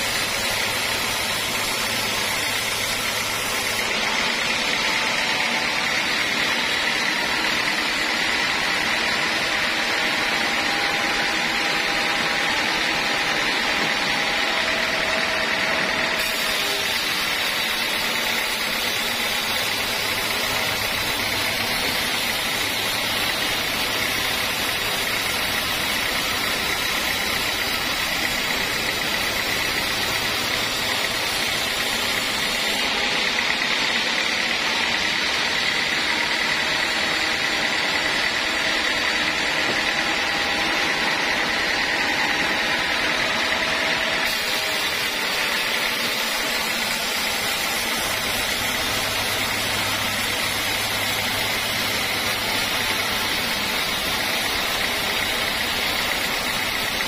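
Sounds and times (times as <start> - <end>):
band saw cutting timber: 0.0 - 57.0.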